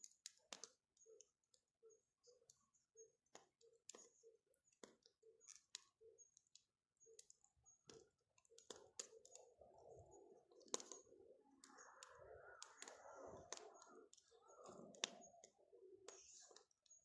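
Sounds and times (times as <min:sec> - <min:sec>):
pops and snaps of burning wood: 0:00.0 - 0:00.9, 0:03.2 - 0:17.0.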